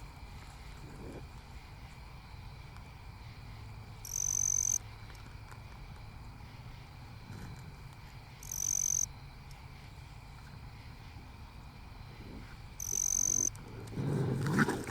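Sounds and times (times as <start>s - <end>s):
insect calling: 0.0s - 14.9s
steady low hum: 0.0s - 14.9s.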